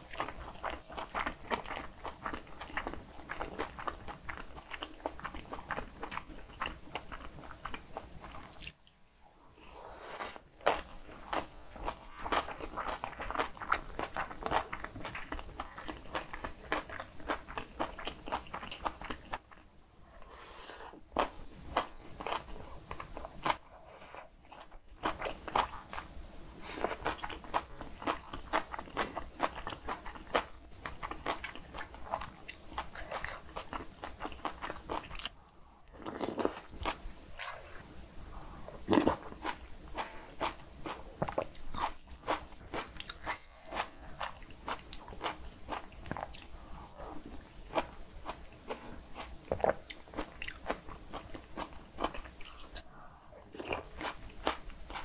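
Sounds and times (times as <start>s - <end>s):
wet chewing and crunching: 0.0s - 9.0s, 10.6s - 19.6s, 26.8s - 55.0s.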